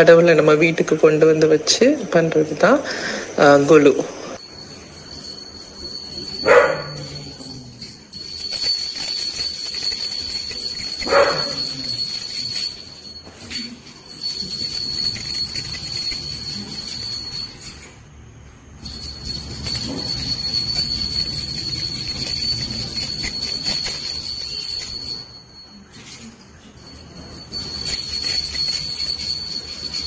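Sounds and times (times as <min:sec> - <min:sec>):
hand bell ringing: 0:04.4 - 0:18.0, 0:18.7 - 0:30.0.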